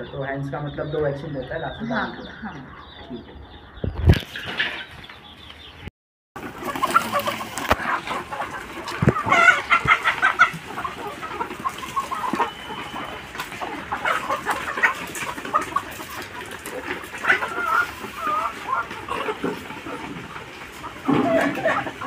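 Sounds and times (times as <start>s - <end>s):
hens clucking and squawking: 0.0s - 5.8s, 6.4s - 22.0s.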